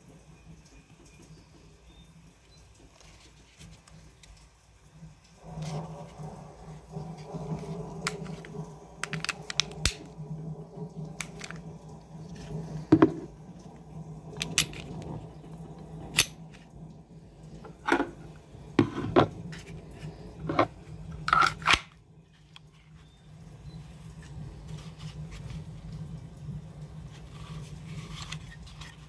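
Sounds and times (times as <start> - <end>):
low hum: 5.4 - 29.0.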